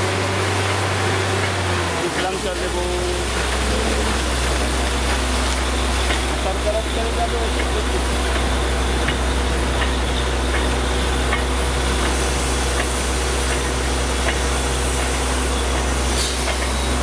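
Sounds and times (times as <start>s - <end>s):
low engine drone: 0.0s - 17.0s
muddy water hissing and splashing: 0.0s - 17.0s.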